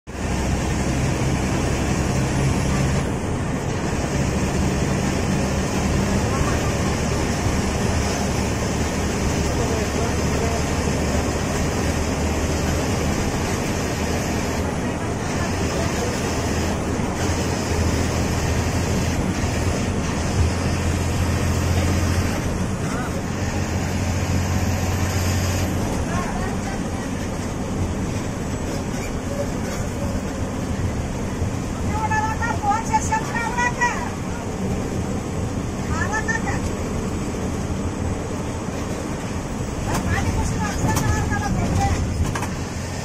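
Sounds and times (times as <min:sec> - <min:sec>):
diesel bus engine drone: 0:00.0 - 0:43.0
road and wind noise: 0:00.0 - 0:43.0.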